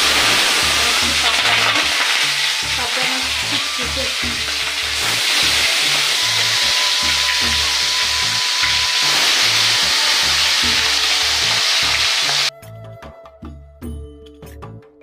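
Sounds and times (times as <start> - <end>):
fish sizzling in hot oil: 0.0 - 12.5.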